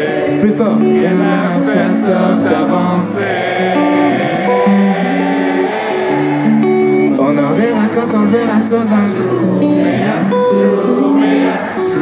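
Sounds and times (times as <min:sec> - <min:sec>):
crowd singing: 0:00.0 - 0:12.0
live band playing: 0:01.0 - 0:12.0.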